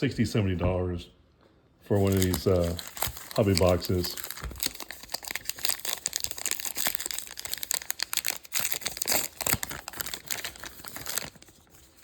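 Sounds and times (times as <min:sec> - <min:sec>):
wrappers crinkling and tearing: 0:02.0 - 0:12.0.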